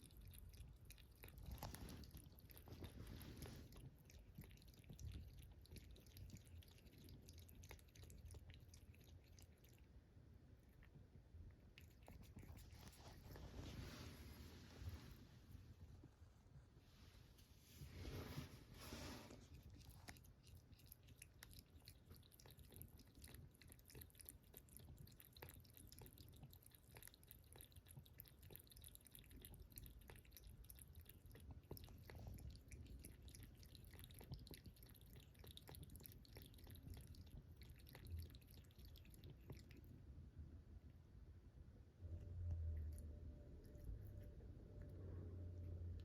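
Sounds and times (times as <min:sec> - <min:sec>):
cat lapping water: 0:00.0 - 0:15.8, 0:17.8 - 0:40.2, 0:42.1 - 0:46.0.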